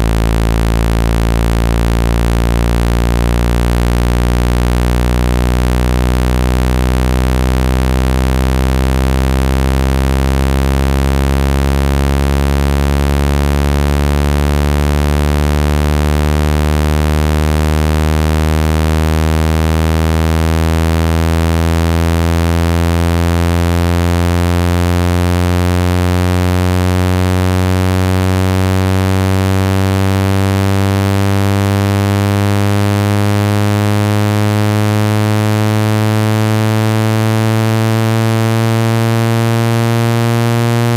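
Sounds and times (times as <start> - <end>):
buzzy rising electronic tone: 0.0 - 40.9.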